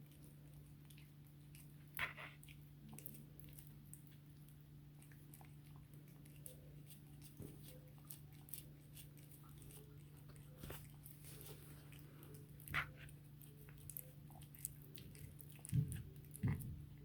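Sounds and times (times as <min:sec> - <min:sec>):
cat chewing bone: 0:00.0 - 0:17.0.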